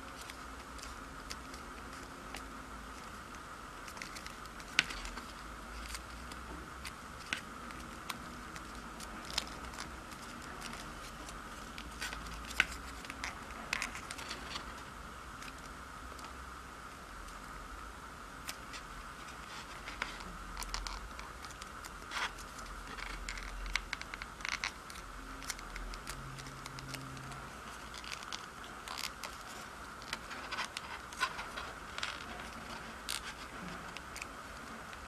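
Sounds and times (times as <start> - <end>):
paper crinkling and crackling: 0.0 - 16.4, 18.4 - 35.0
steady background hum: 0.0 - 35.0.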